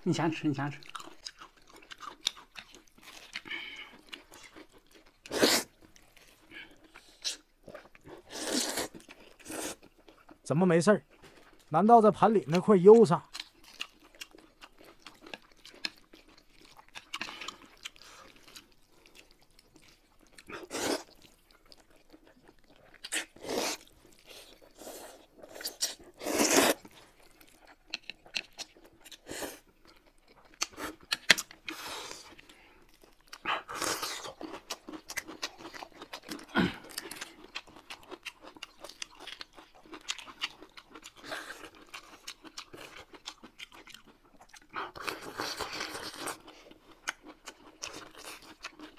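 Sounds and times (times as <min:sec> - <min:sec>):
people chewing and crunching food: 0:00.0 - 0:48.9.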